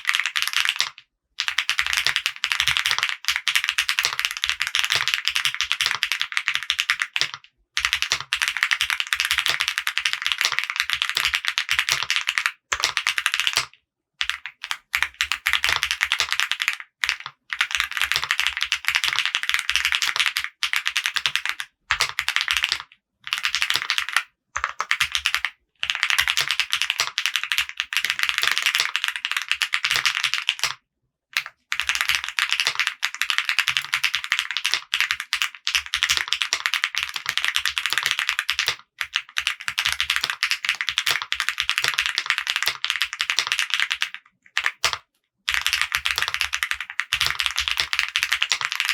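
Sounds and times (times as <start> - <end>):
mechanical keyboard typing: 0.0 - 30.8, 31.4 - 48.9.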